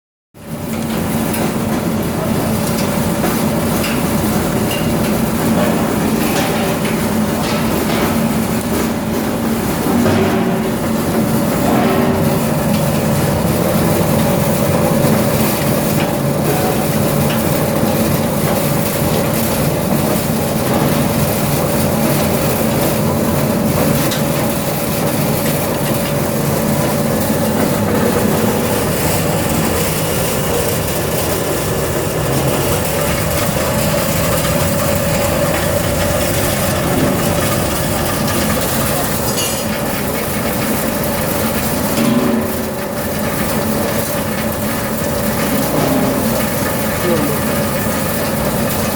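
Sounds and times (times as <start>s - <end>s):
machinery humming and rattling: 0.4s - 48.9s.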